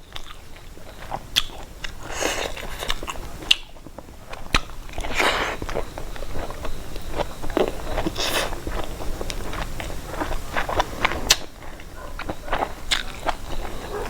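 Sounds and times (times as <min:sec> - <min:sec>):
person chewing with mouth clicks: 0:00.1 - 0:14.0.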